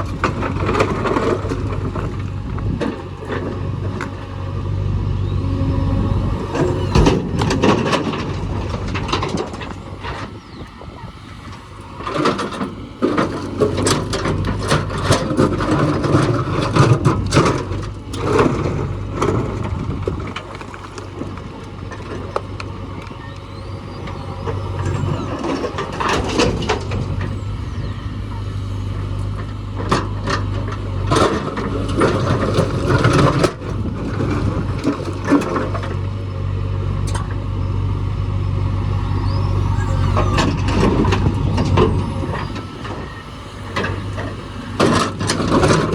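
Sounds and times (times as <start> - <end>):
heavy diesel machinery running: 0.0 - 45.9.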